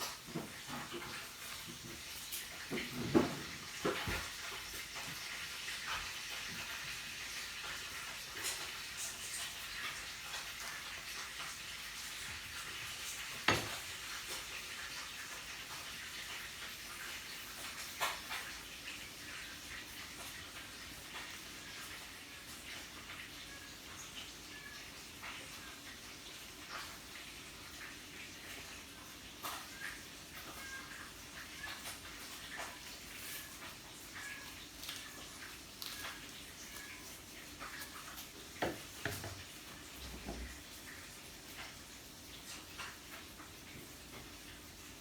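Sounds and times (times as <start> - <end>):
meat sizzling on a grill: 0.0 - 45.0.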